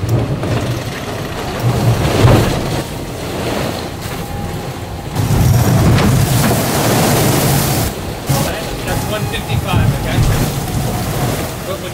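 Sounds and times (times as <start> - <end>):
wind and rushing sea water: 0.0 - 11.9.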